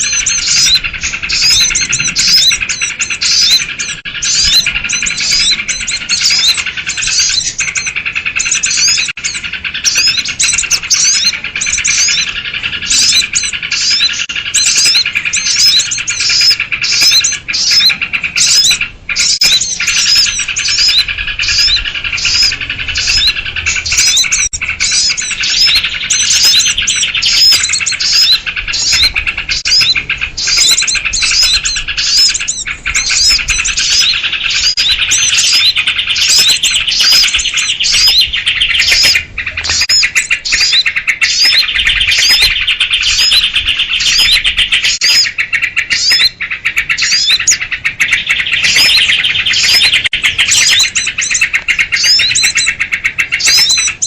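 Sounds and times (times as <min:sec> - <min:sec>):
flock of small birds chirping: 0:00.0 - 0:54.0.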